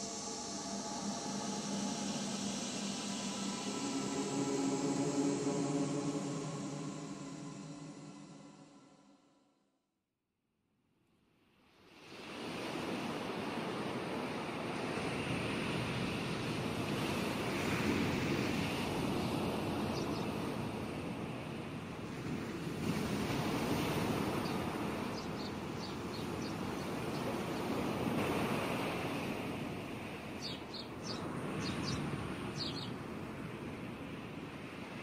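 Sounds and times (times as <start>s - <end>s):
sea waves surging: 0.0s - 9.1s, 12.0s - 35.0s.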